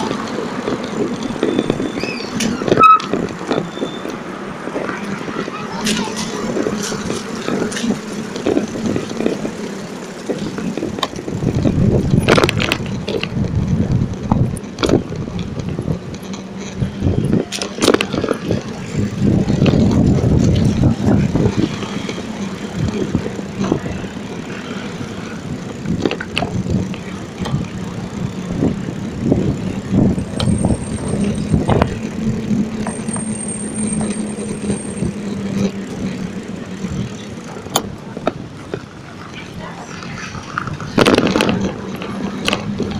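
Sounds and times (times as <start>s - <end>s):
bicycle rattling over paving slabs: 0.0s - 42.9s
city traffic: 0.0s - 42.9s.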